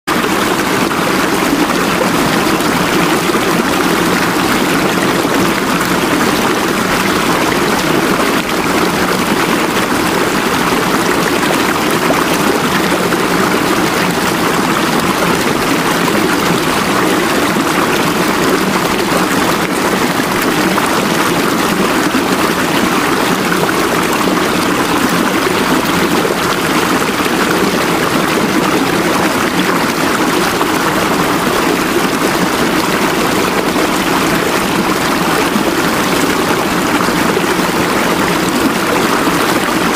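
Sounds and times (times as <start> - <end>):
running water: 0.1 - 39.9.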